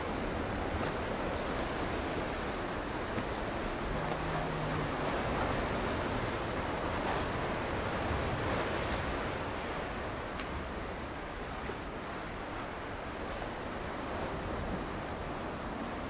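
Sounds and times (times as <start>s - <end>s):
ocean surf on rocky shore: 0.0s - 16.0s.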